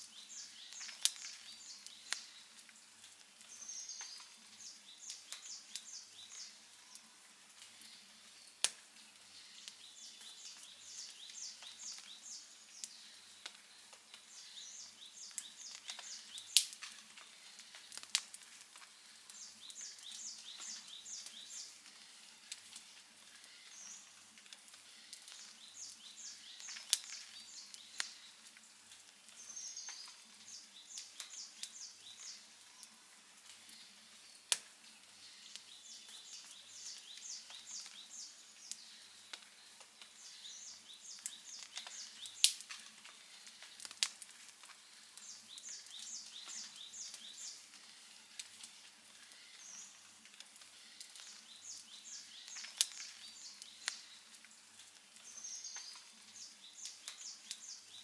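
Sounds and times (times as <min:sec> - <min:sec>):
bird chirping: 0:00.0 - 0:02.7, 0:03.4 - 0:07.1, 0:07.7 - 0:18.1, 0:18.8 - 0:24.2, 0:24.8 - 0:28.6, 0:29.3 - 0:33.0, 0:35.1 - 0:44.0, 0:44.7 - 0:50.1, 0:50.7 - 0:54.4, 0:55.2 - 0:58.0
campfire crackling: 0:00.0 - 0:58.0.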